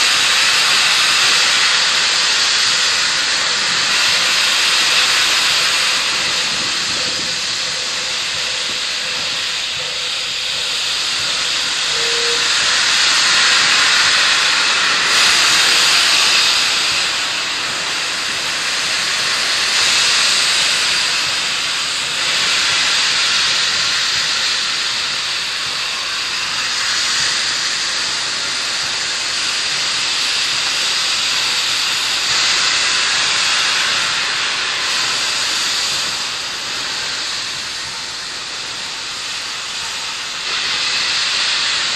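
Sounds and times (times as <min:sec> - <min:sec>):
steam locomotive venting steam: 0:00.0 - 0:41.9.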